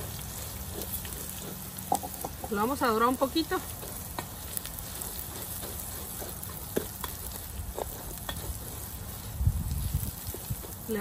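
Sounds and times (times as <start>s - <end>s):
rice sizzling in hot oil: 0.0s - 11.0s
wooden spoon scraping: 0.0s - 11.0s.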